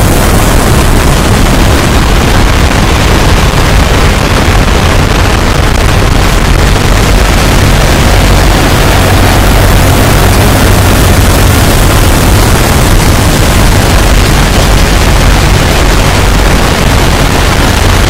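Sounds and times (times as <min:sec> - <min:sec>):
distorted noise with low rumble: 0:00.0 - 0:18.0.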